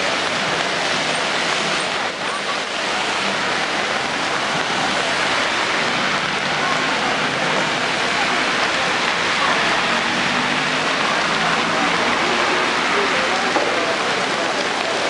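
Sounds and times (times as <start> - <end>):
heavy rain on the street: 0.0 - 15.0
traffic on wet road: 0.0 - 15.0.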